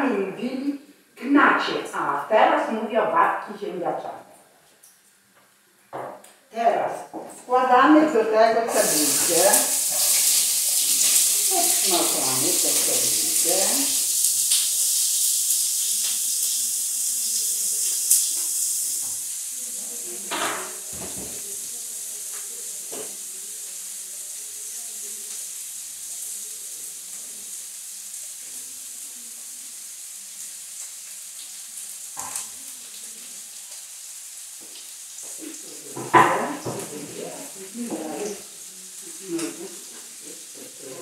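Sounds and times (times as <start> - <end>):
onion sizzling in a pan: 7.5 - 41.0.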